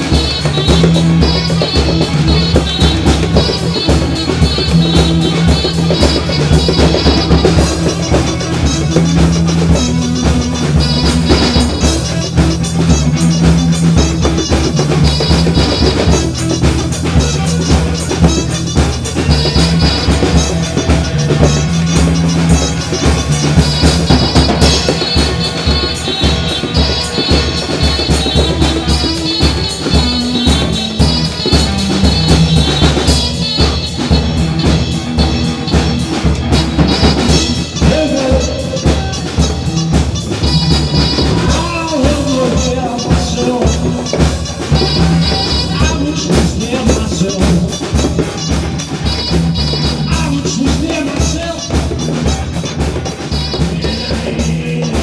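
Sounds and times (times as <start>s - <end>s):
music with drum beat: 0.0s - 55.0s.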